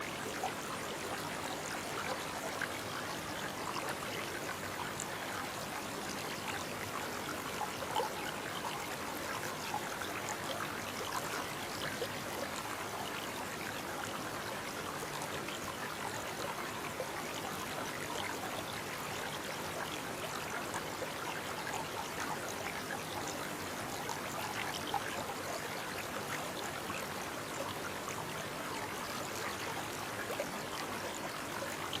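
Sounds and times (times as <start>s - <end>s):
brook babbling over stones: 0.0s - 32.0s.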